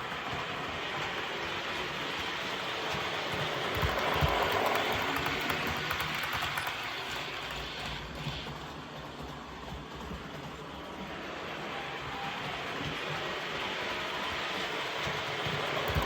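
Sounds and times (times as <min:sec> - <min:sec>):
model train engine sound: 0:00.0 - 0:16.0
model train wheels on track: 0:00.0 - 0:16.0.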